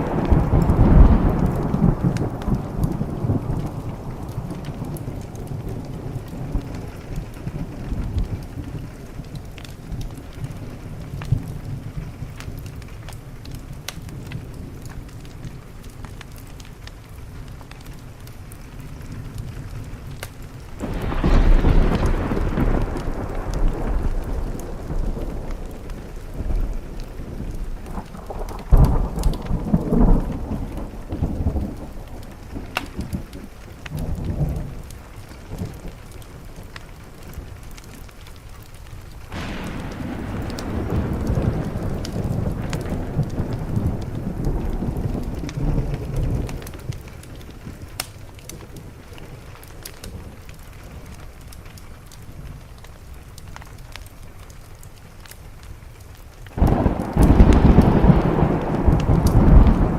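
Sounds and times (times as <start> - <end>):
thunder rumbling: 0.0 - 53.6, 56.6 - 59.9
rain on a window: 0.0 - 59.9
sharp crackles: 0.0 - 59.9.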